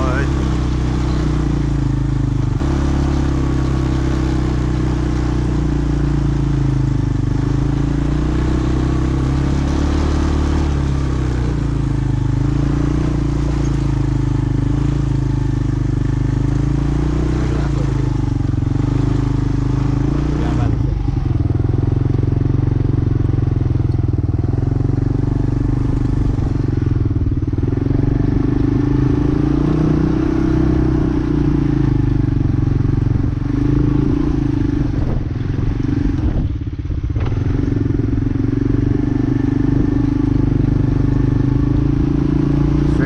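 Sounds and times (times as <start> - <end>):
quad bike engine running: 0.0 - 43.0.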